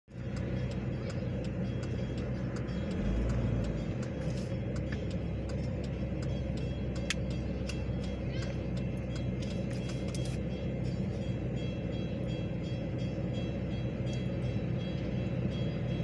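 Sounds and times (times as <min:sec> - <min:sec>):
railroad crossing bell: 0:00.1 - 0:16.0.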